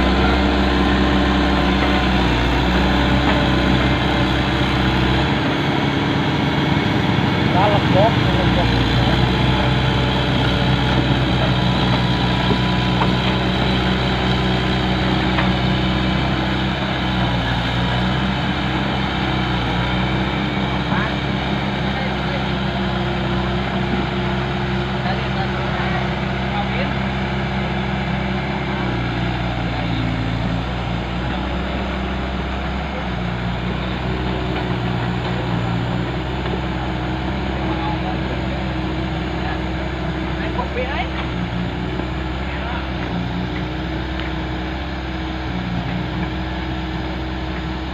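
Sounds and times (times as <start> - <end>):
heavy diesel engine droning: 0.0 - 47.9.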